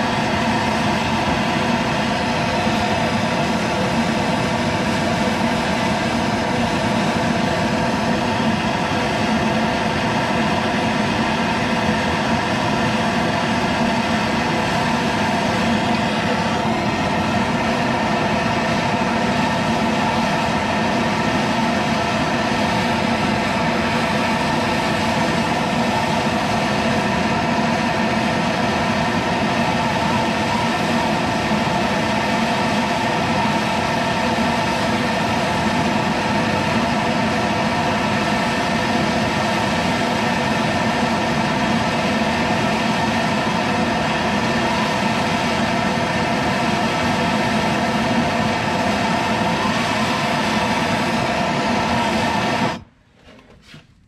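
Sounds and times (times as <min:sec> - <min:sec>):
gas torch hissing: 0:00.0 - 0:52.9.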